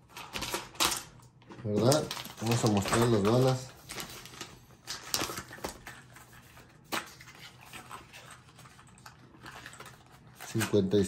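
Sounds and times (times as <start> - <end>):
plastic shrink-wrap tearing and crinkling: 0.0 - 11.0.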